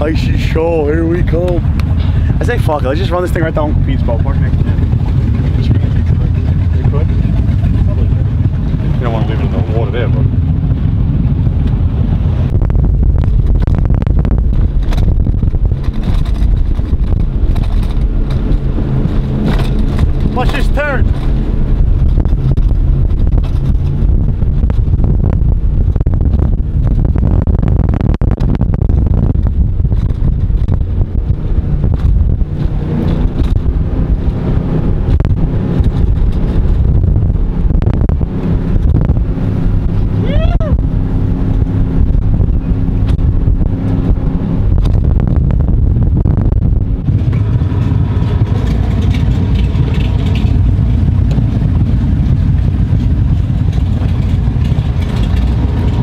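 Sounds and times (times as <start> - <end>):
vehicle engine running: 0.0 - 56.0
wind buffeting microphone: 0.0 - 56.0.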